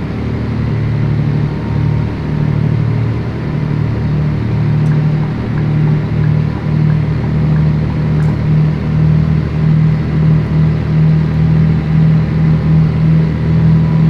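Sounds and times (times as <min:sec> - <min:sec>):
diesel truck engine droning: 0:00.0 - 0:14.0.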